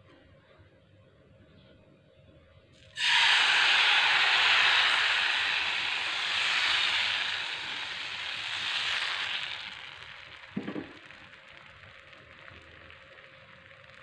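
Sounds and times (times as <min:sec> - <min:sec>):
batter sizzling in hot pan: 0:02.8 - 0:14.0
faint crackling and bubbling: 0:02.8 - 0:14.0.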